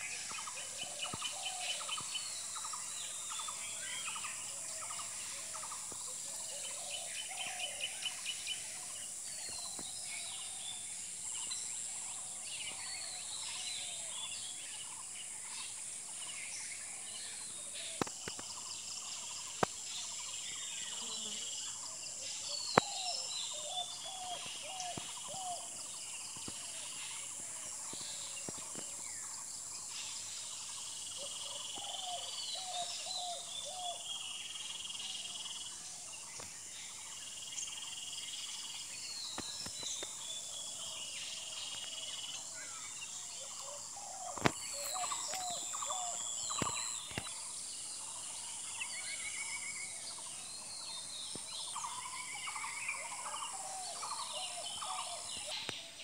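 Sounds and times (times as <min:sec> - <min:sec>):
bird chorus: 0:00.0 - 0:56.0.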